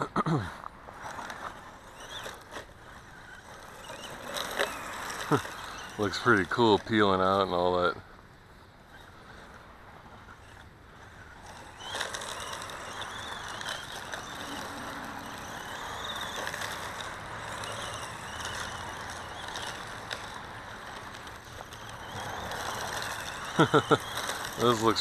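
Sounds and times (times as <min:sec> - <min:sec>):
tyres crunching gravel: 0:00.0 - 0:08.0, 0:08.9 - 0:25.0
toy truck motor whining: 0:00.6 - 0:08.0, 0:08.9 - 0:25.0.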